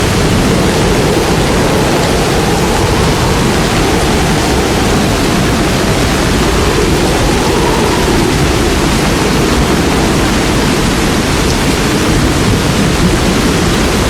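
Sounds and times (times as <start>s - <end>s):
heavy rain: 0.0s - 14.0s
wind: 0.0s - 14.0s.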